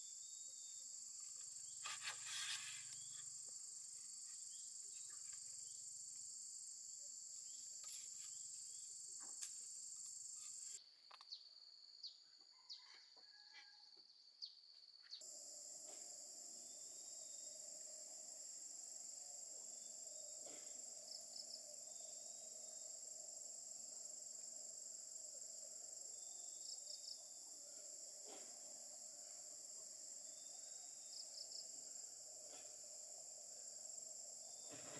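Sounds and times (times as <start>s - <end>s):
insects chirring: 0.0s - 11.4s, 15.2s - 34.9s.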